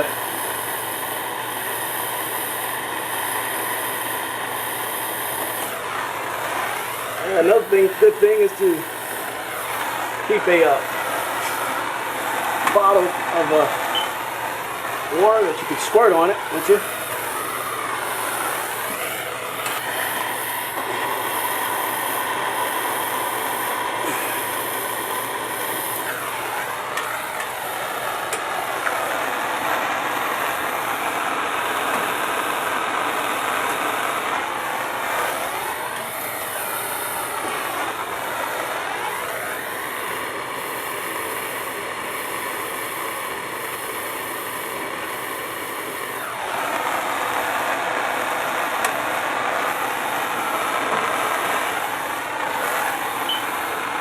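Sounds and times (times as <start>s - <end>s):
torch flame roaring: 0.0s - 54.0s.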